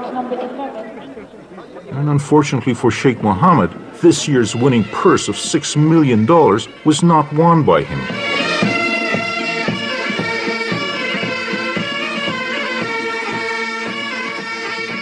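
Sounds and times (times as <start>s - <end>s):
bagpipe band playing: 2.0s - 15.0s.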